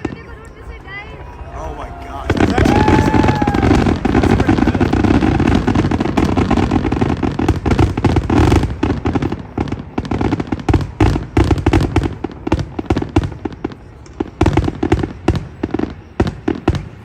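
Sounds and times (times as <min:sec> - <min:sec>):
fireworks popping and crackling: 0:00.0 - 0:17.0.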